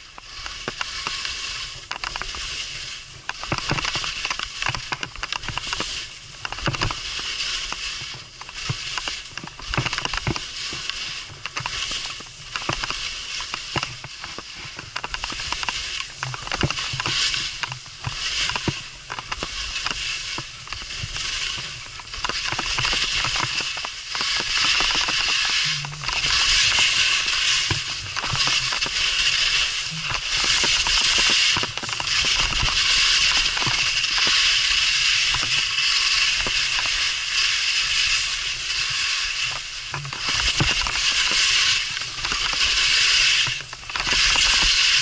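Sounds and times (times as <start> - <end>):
skis scraping on snow: 0.0 - 45.0.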